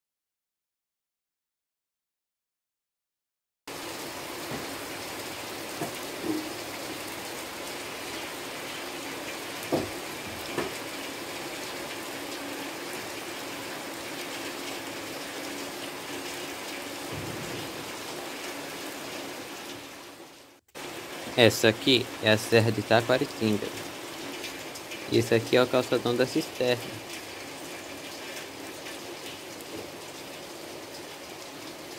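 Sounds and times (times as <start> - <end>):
steady rain falling: 3.7 - 31.9.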